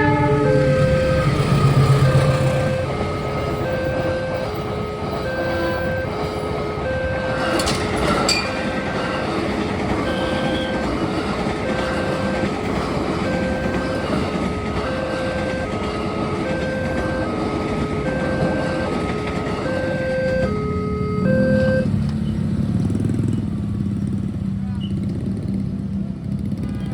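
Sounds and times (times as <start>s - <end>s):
two-tone level crossing alarm: 0.0s - 22.0s
train rumbling and rattling: 0.0s - 26.9s.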